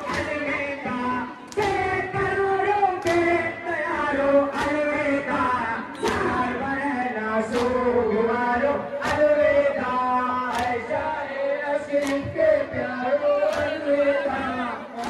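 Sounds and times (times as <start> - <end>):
sharp beat: 0.0 - 14.6
many voices chanting: 0.0 - 15.0.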